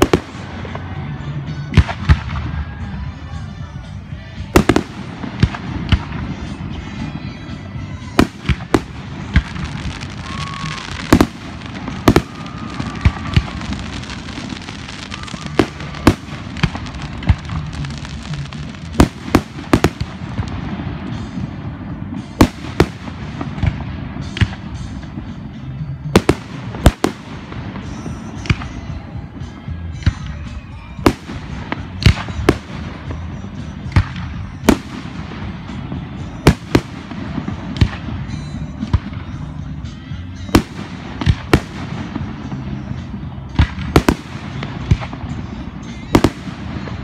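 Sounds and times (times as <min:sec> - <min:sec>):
firework bangs: 0:00.0 - 0:03.5, 0:04.4 - 0:39.5, 0:40.4 - 0:47.0
firework crackle: 0:00.0 - 0:47.0.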